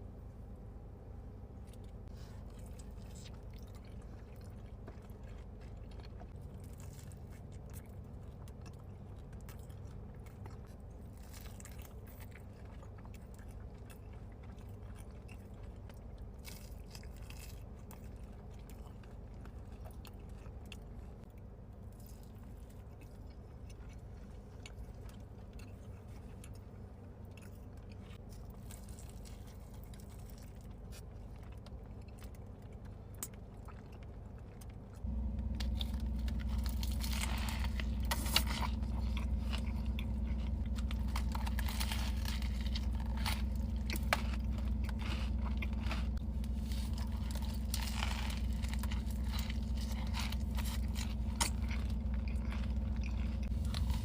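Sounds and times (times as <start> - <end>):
steady low hum: 0.0 - 54.0
person chewing and crunching food: 1.5 - 54.0.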